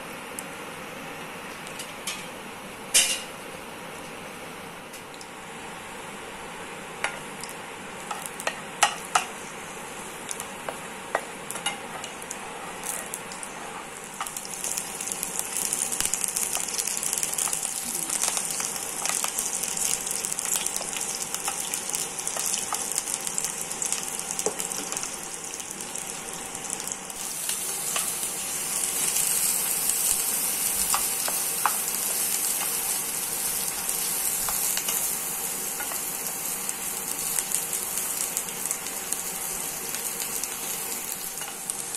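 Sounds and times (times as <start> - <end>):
vegetables sizzling in oil: 7.0 - 41.9.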